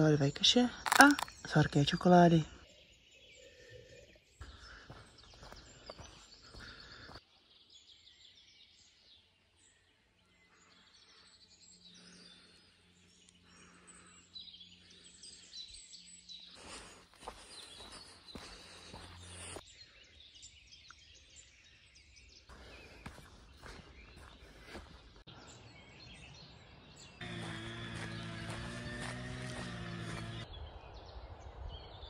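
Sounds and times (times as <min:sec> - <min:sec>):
faint bird chirping: 0:00.0 - 0:32.0.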